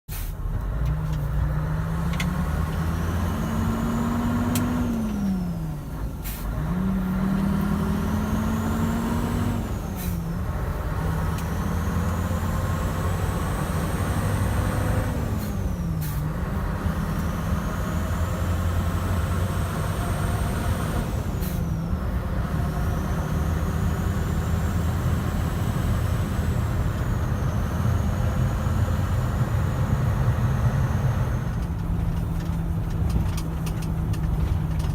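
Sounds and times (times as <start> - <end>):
diesel truck accelerating: 0.1 - 34.9.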